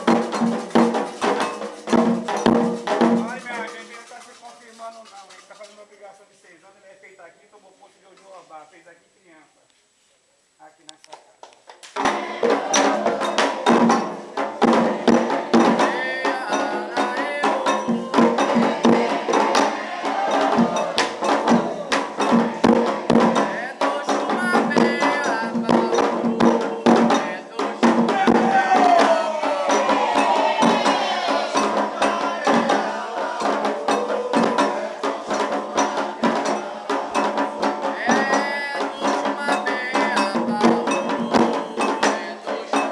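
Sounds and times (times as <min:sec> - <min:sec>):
rapid hand drumming: 0:00.0 - 0:05.8, 0:12.0 - 0:42.9
voices singing: 0:00.0 - 0:05.8, 0:12.0 - 0:42.9
light percussion: 0:00.0 - 0:06.6, 0:11.0 - 0:42.9.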